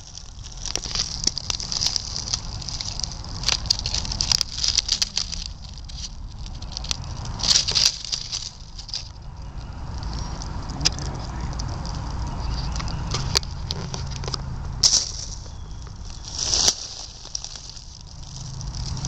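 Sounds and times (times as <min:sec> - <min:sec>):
dry leaves rustling and crackling: 0:00.0 - 0:19.0.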